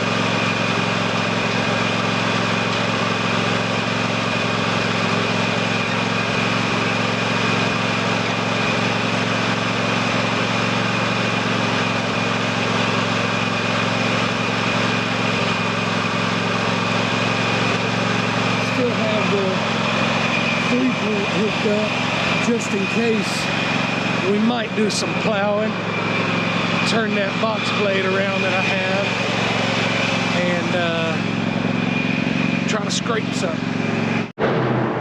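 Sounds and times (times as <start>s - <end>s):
high-pitched whine: 0.0s - 35.0s
lawn tractor engine running: 0.0s - 35.0s.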